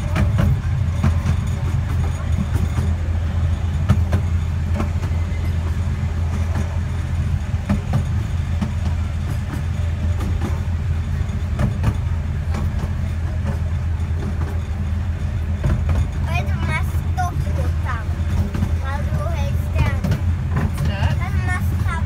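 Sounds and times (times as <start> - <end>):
railway carriage rumbling on track: 0.0 - 22.0
wheels clicking over rail joints: 0.0 - 22.0.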